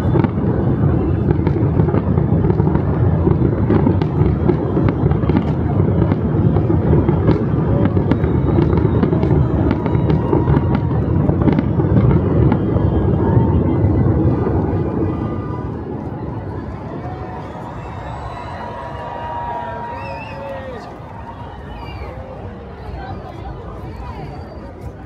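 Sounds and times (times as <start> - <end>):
fireworks crackling and popping: 0.0 - 25.0
low din of firework bursts: 0.0 - 25.0.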